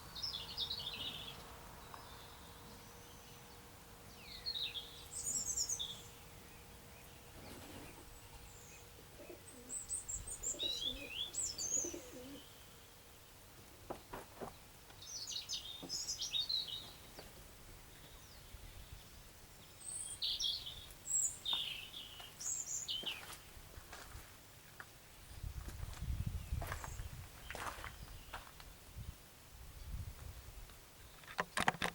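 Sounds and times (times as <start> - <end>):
birds chirping: 0.0 - 24.0, 24.6 - 28.7
faint steady background noise: 0.0 - 31.9.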